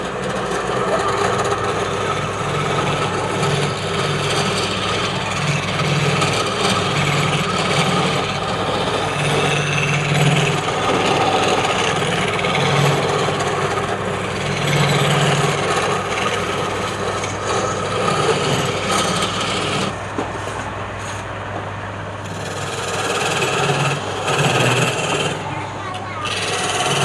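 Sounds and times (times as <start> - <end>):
tool scraping spinning wood: 0.0 - 21.4, 22.2 - 27.0
lathe motor hum: 0.0 - 27.0.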